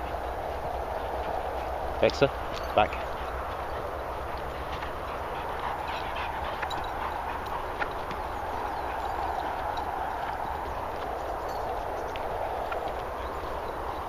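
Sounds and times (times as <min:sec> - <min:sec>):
dogs panting: 0:00.0 - 0:14.0.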